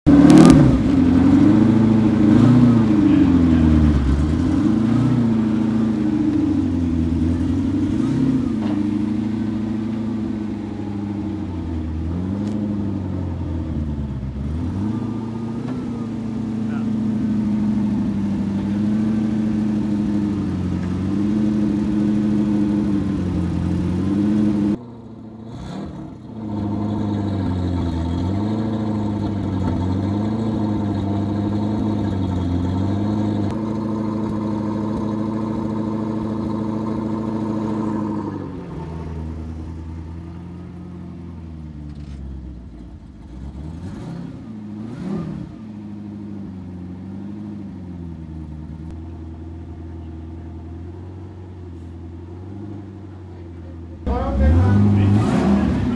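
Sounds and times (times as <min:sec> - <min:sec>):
car engine running: 0:00.0 - 0:55.9
engine revving: 0:00.0 - 0:55.9.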